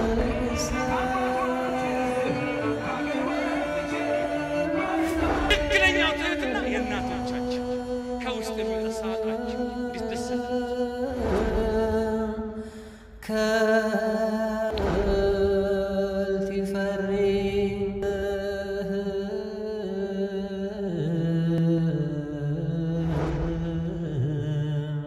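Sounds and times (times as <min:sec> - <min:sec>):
chant-like singing voice: 0:00.0 - 0:25.0.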